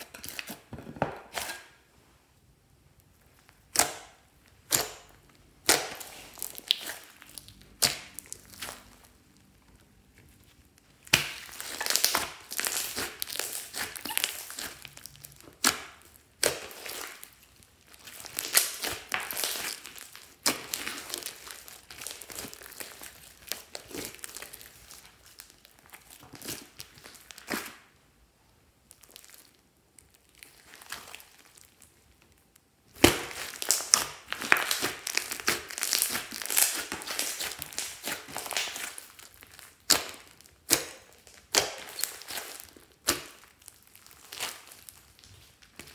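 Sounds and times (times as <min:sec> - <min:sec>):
slime crackling and popping: 0:03.0 - 0:28.0, 0:28.8 - 0:45.9.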